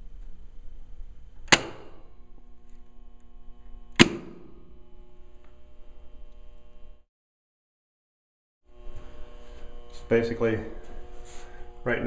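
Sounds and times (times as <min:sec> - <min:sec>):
mains hum: 0:00.0 - 0:07.1, 0:08.7 - 0:12.0.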